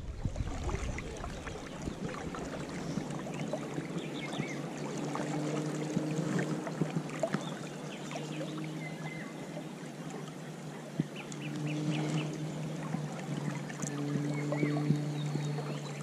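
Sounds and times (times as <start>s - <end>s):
river water lapping: 0.0s - 16.0s.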